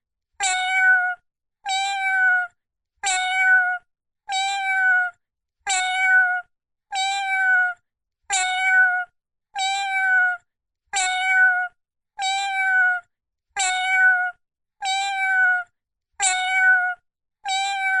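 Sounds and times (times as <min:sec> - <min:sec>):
cartoon kitten meowing: 0:00.4 - 0:18.0.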